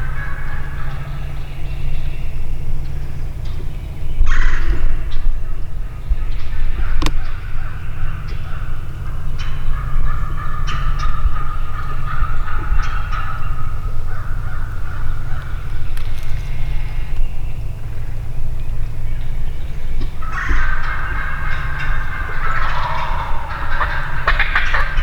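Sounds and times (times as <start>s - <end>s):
steady low rumble: 0.0s - 25.0s
wild turkeys gobbling: 0.0s - 25.0s.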